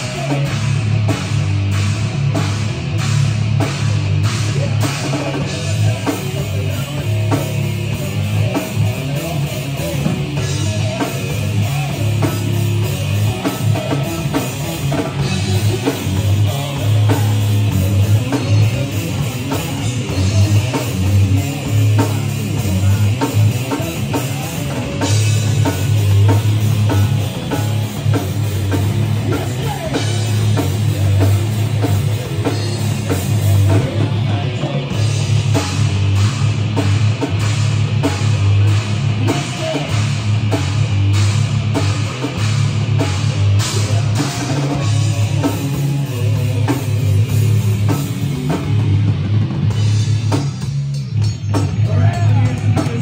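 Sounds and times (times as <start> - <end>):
drum kit beat: 0.0 - 53.0
electric guitar: 0.0 - 53.0.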